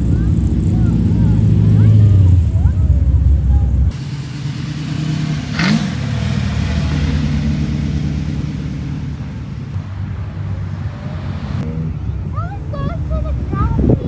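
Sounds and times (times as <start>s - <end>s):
engine revving: 0.0s - 12.0s
deep loud engine sound: 0.0s - 14.0s
modified car engines driving past: 0.0s - 14.0s.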